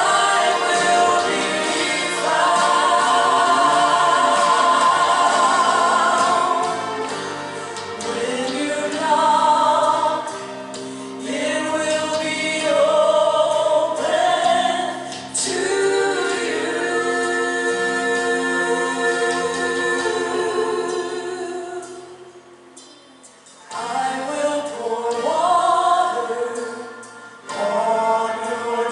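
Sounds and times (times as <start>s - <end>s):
choir singing gospel song: 0.0s - 22.6s, 23.7s - 28.9s.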